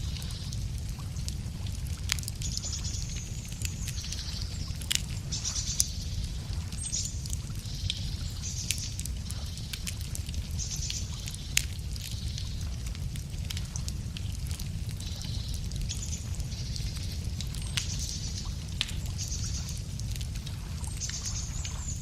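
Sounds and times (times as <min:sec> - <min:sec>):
wood fire crackling and popping: 0:00.0 - 0:22.0
songbirds trilling: 0:02.1 - 0:13.3, 0:14.6 - 0:22.0.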